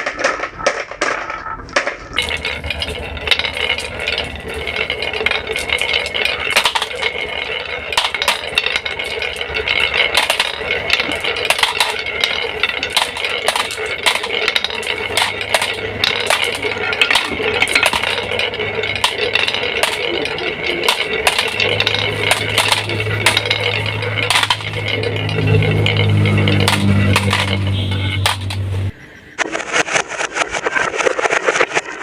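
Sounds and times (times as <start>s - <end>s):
low steady hum: 0.0s - 29.3s
marbles rolling and clattering: 0.0s - 32.0s.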